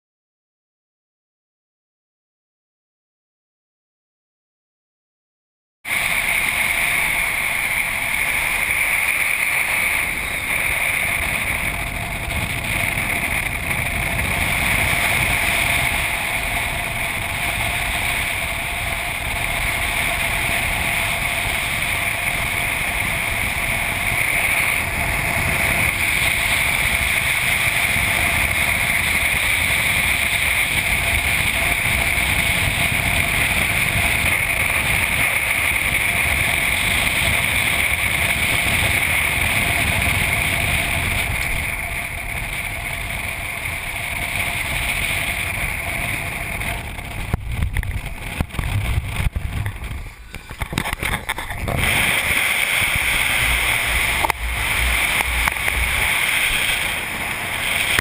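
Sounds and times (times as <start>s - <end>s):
car engine: 5.9s - 58.0s
wind rush over camera: 5.9s - 58.0s.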